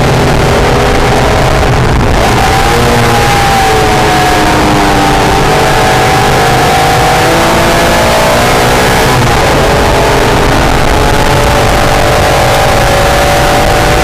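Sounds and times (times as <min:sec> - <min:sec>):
car engine running hard: 0:00.0 - 0:14.0
road and wind rumble: 0:00.0 - 0:14.0.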